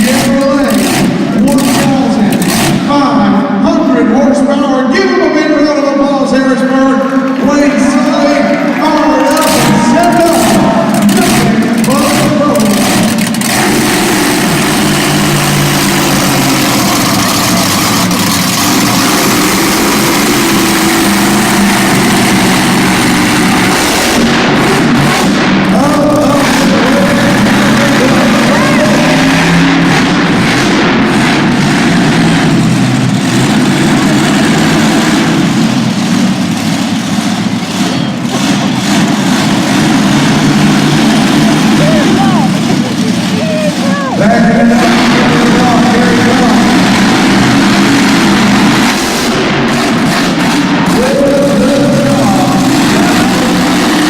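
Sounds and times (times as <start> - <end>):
monster truck engine idling: 0.0 - 54.0.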